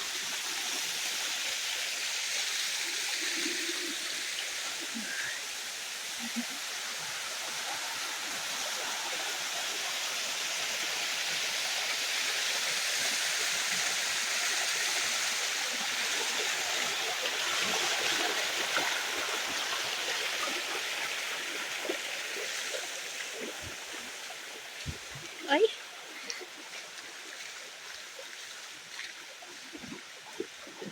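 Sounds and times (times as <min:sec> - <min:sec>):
water rushing down waterfall: 0:00.0 - 0:30.9.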